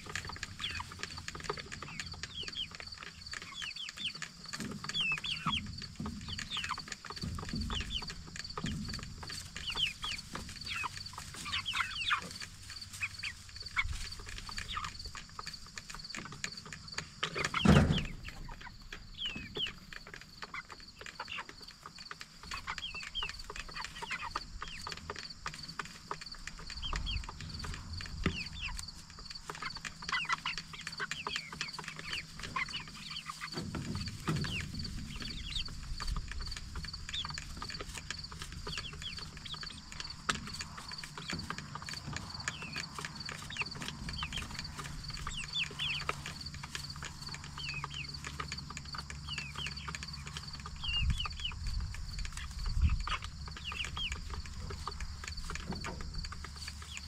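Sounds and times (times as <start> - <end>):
chicks peeping and chirping: 0.0 - 57.0.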